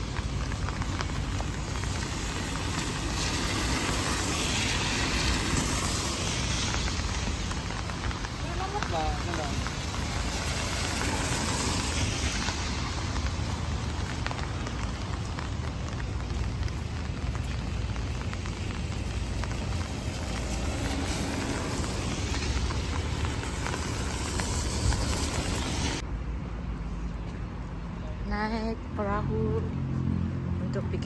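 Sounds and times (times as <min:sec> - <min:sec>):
heavy rain on pavement: 0:00.0 - 0:26.1
traffic on wet road: 0:00.0 - 0:31.0.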